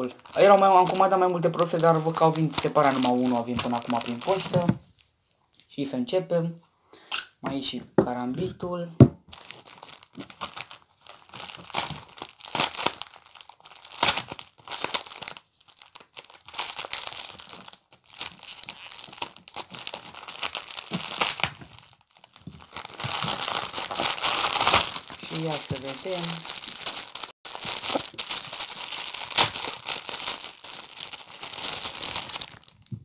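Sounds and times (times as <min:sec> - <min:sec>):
parcel wrapping crinkling and tearing: 0:00.0 - 0:05.1, 0:09.3 - 0:33.0.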